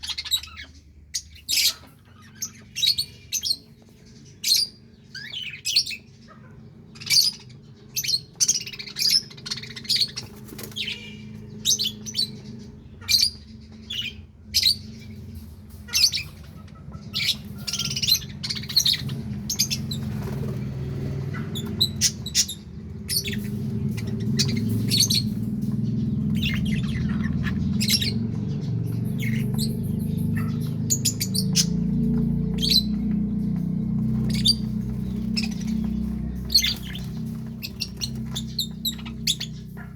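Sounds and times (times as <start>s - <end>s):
budgerigars chirping and chattering: 0.0s - 39.9s
low steady hum: 0.0s - 39.9s.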